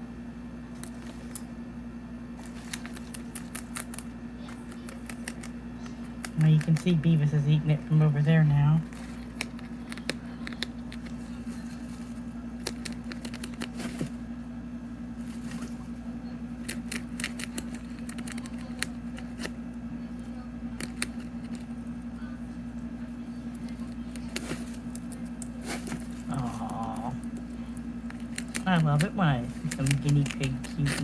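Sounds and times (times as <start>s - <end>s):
low electrical hum: 0.0s - 31.0s
guinea pig chewing leaf: 2.3s - 14.4s, 15.1s - 31.0s.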